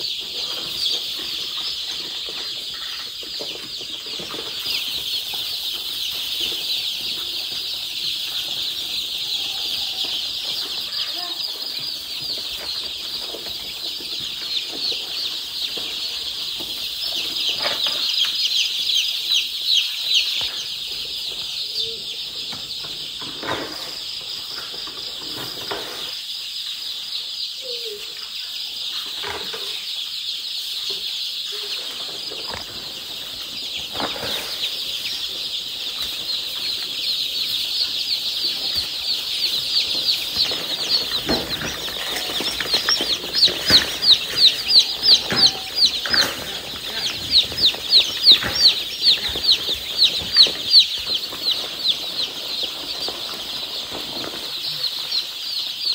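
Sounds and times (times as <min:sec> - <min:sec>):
chick chirping loudly: 0:00.0 - 0:55.9
chicks peeping chorus: 0:00.0 - 0:55.9.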